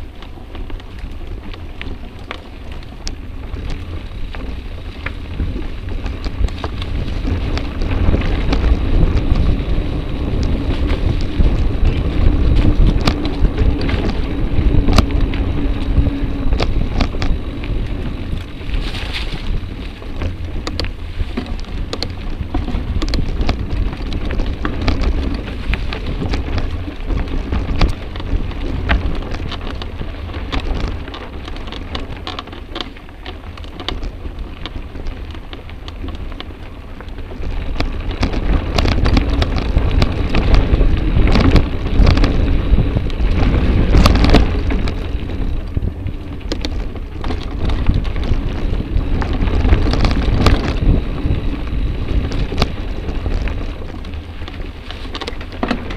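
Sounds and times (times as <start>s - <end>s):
bike clicks and knocks: 0.0s - 55.9s
wind rumble on microphone: 0.0s - 55.9s.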